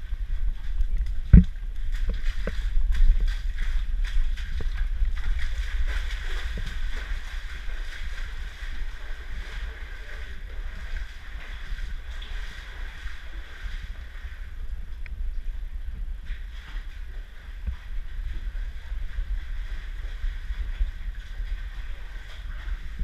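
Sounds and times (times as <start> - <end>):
seawater lapping among boulders: 0.0 - 23.0
steady low rumble: 0.0 - 23.0.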